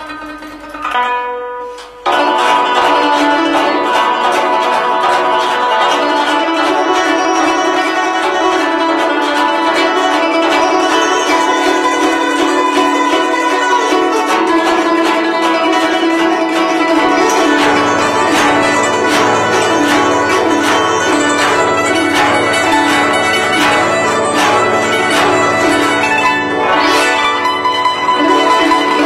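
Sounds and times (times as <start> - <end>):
plucked zither playing: 0.0 - 29.0.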